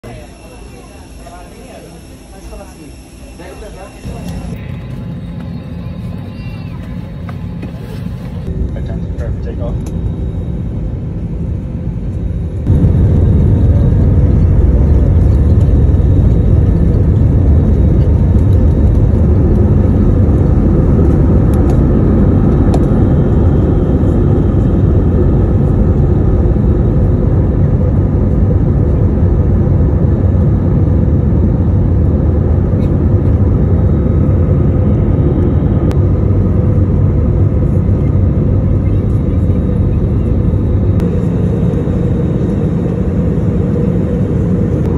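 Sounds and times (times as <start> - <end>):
jet engines at takeoff power: 0.0 - 44.9.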